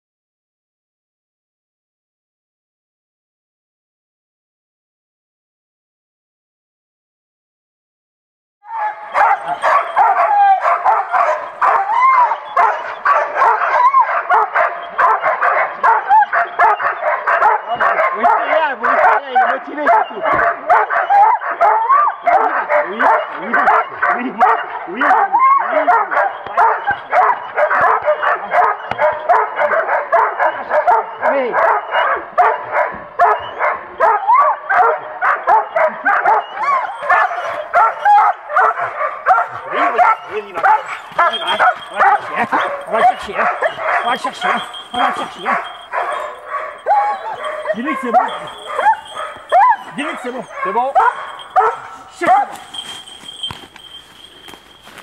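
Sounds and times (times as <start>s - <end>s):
dog yelping whining and barking: 8.7s - 54.8s.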